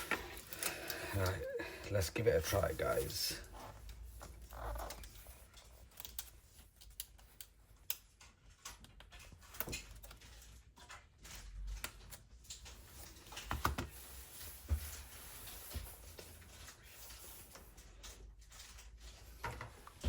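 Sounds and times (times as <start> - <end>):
small parts and tools clicking: 0.0 - 20.0.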